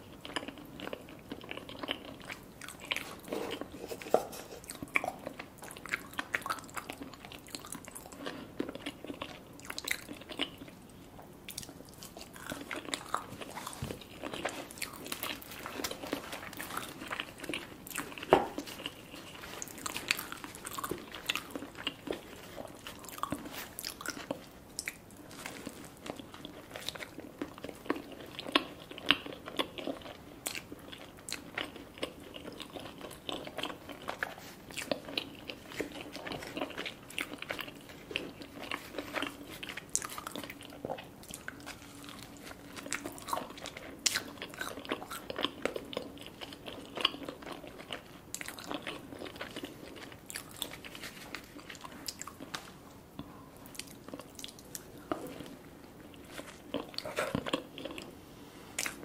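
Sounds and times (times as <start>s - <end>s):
close chewing and biting: 0.0s - 58.2s.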